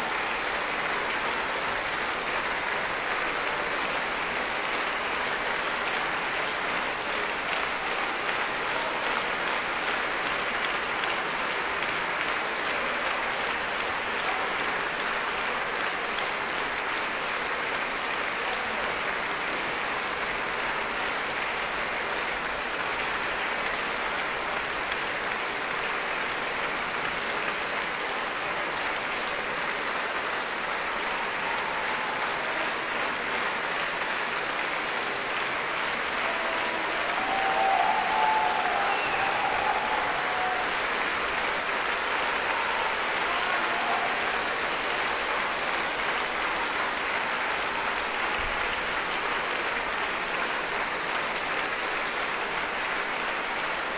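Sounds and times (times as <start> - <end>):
audience applauding: 0.0 - 53.9.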